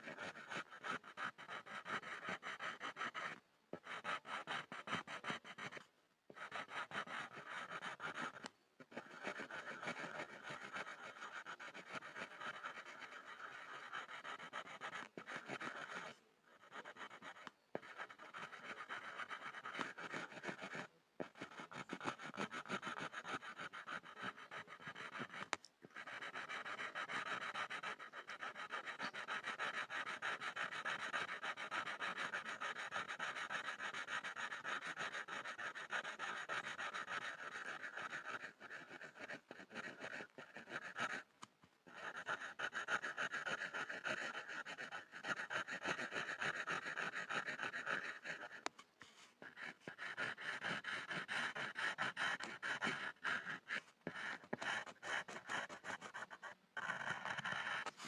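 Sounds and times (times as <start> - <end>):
pencil scribbling on board: 0.0 - 41.3, 41.9 - 58.0.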